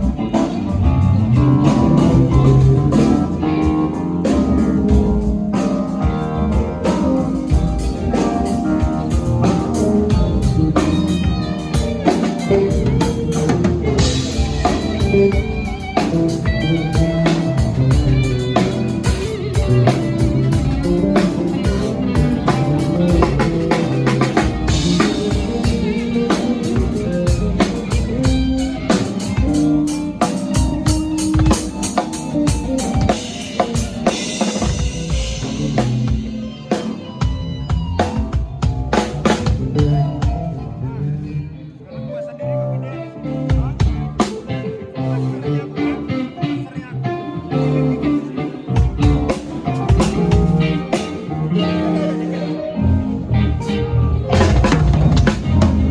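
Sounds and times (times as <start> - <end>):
drum kit beat: 0.0 - 40.6, 48.8 - 55.9
electric guitar: 0.0 - 55.9.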